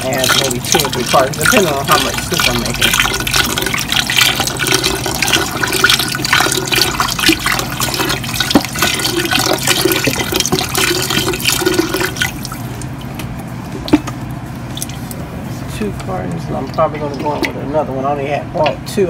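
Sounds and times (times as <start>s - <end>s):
broth pouring and splashing: 0.0s - 15.2s, 16.6s - 17.7s.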